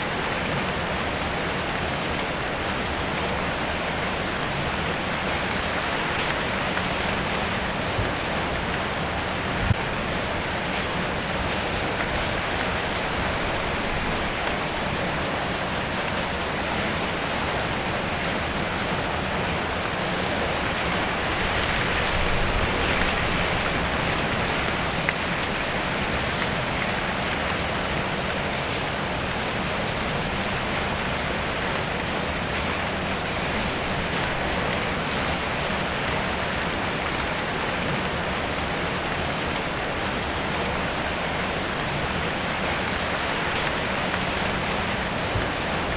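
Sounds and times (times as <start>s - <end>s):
rain on a car roof: 0.0s - 45.9s.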